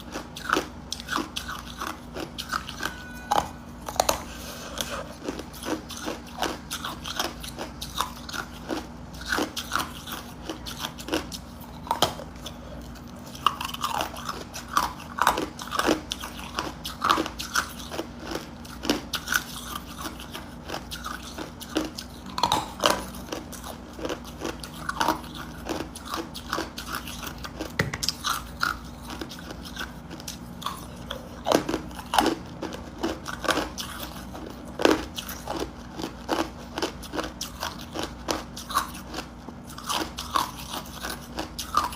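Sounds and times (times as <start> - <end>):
person crunching ice cubes: 0.0 - 41.9.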